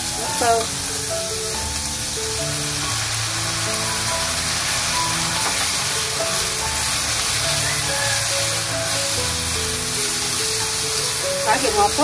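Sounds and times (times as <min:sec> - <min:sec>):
background music of held notes: 0:00.0 - 0:12.0
vegetables sizzling in a wok: 0:00.0 - 0:12.0.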